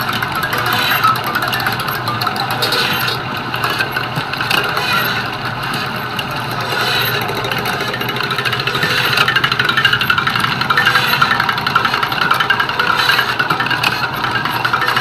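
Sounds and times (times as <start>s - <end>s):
fast pulsing: 0.0s - 15.0s
vehicle engine running: 0.0s - 15.0s.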